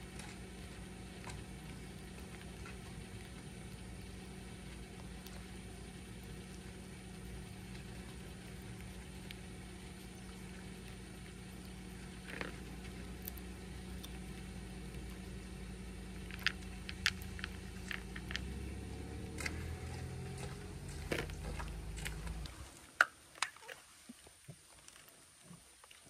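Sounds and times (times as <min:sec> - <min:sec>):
low engine hum: 0:00.0 - 0:22.9.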